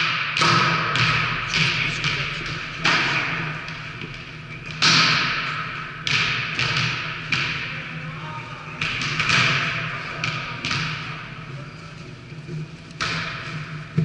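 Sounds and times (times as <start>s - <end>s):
volleyballs smacking and bouncing: 0.0s - 14.0s.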